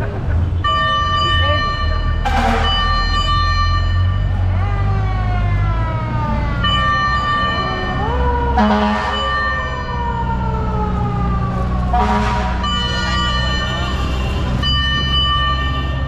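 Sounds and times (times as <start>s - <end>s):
fire truck sirens wailing: 0.0s - 16.0s.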